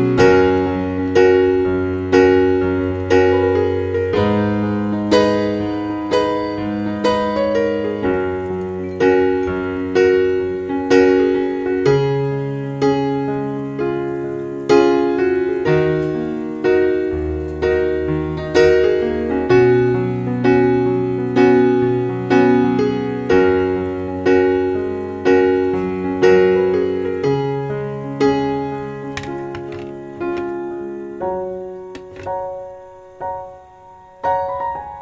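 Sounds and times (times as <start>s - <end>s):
slow gentle piano music: 0.0s - 35.0s.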